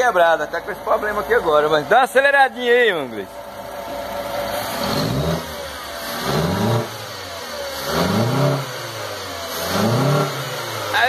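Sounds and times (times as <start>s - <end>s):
petrol engine revving: 0.0s - 11.0s.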